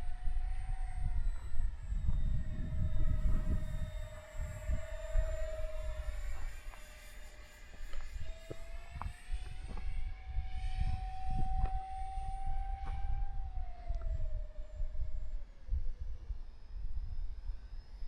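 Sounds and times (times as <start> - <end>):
electric ducted fans whining: 0.0 - 18.0.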